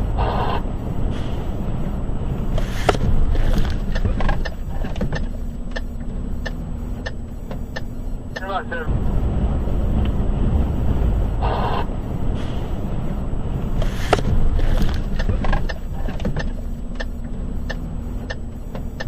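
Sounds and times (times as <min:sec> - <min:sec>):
car rumbling on road: 0:00.0 - 0:19.0.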